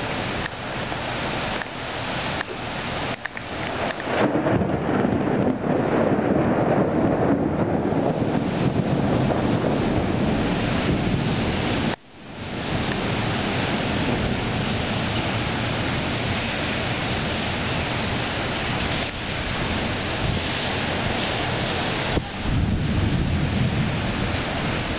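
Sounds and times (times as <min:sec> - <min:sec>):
rain: 0:00.0 - 0:24.9
rumbling thunder: 0:03.7 - 0:24.9.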